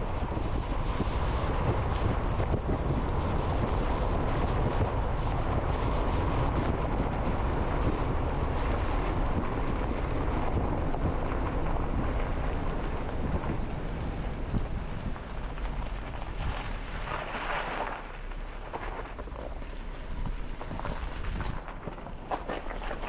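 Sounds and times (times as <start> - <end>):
car engine and road noise: 0.0 - 23.0
wind buffeting microphone: 0.0 - 23.0.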